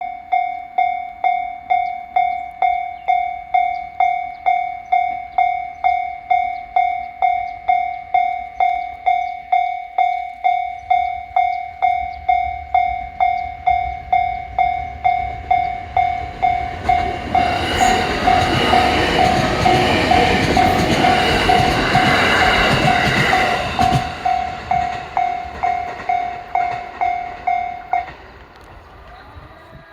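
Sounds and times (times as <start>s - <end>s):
level-crossing bell dinging: 0.0s - 28.4s
electric train passing: 0.0s - 29.9s.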